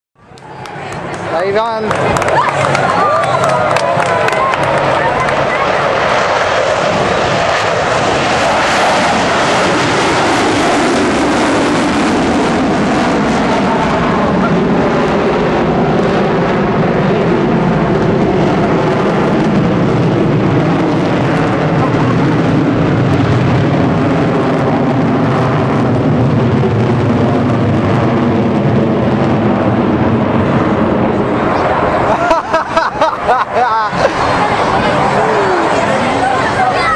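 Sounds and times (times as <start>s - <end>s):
jet engines flying by: 0.2s - 36.9s.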